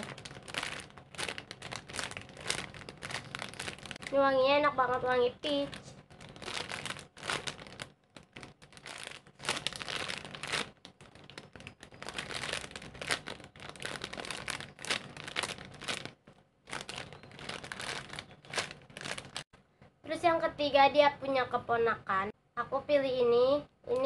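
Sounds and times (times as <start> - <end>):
plastic bag crinkling: 0.0 - 19.5.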